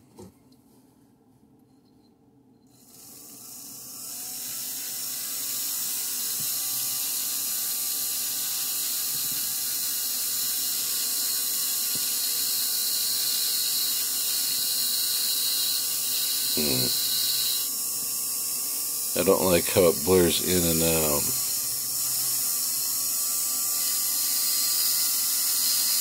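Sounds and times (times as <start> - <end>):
rotary carving tool grinding stone: 2.7 - 26.0.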